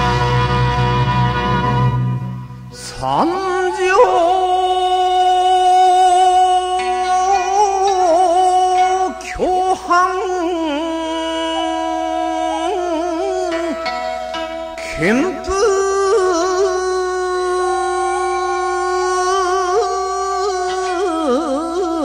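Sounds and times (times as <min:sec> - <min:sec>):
backing music: 0:00.0 - 0:22.0
voice chanting long held notes: 0:02.7 - 0:22.0.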